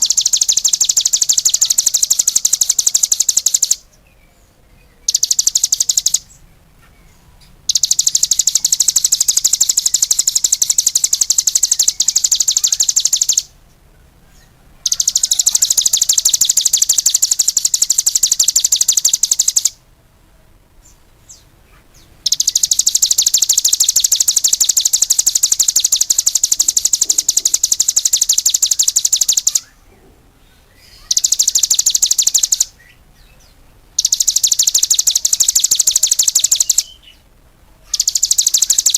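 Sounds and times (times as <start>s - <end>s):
songbird trilling: 0.0s - 4.0s, 4.7s - 19.8s, 20.8s - 38.9s.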